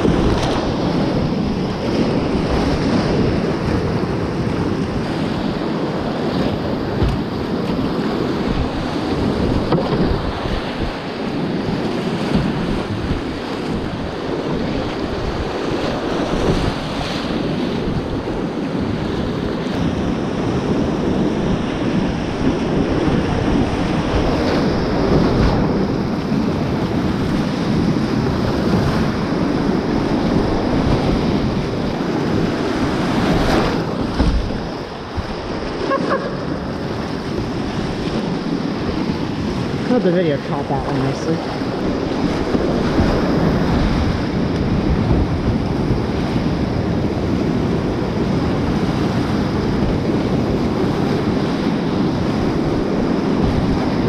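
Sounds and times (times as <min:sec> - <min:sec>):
water splashing over boat: 0:00.0 - 0:54.0.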